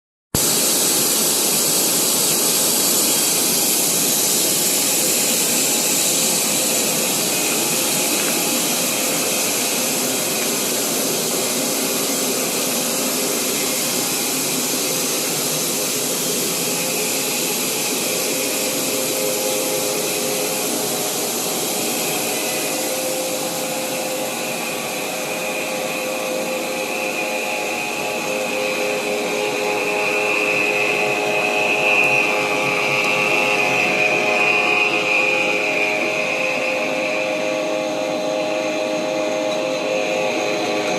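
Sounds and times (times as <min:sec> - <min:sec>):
cutting machine whirring: 0:00.4 - 0:40.9
faint high whine: 0:00.4 - 0:40.9.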